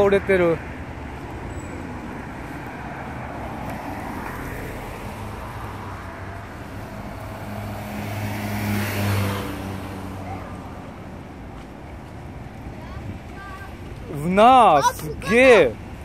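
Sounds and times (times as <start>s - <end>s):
vehicle engine hum passing: 0.0s - 16.0s.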